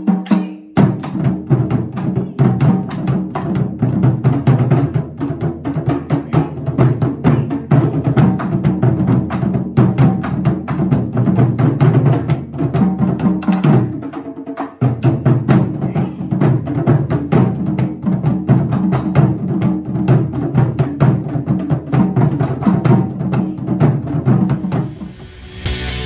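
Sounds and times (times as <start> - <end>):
taiko drums fast rhythm: 0.0 - 26.0.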